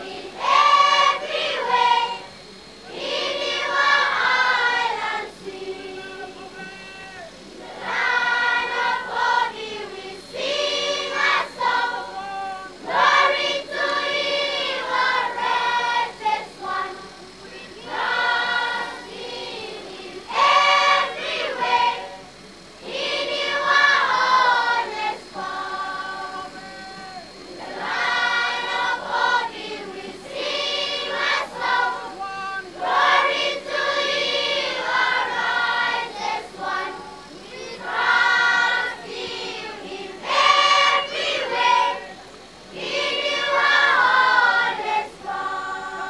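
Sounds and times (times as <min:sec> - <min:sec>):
children's choir singing: 0:00.0 - 0:46.0.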